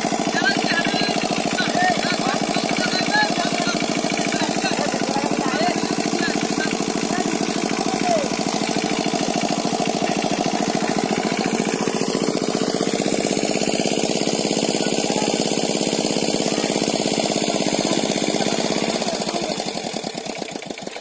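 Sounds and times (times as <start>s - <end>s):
small engine chugging: 0.0s - 21.0s.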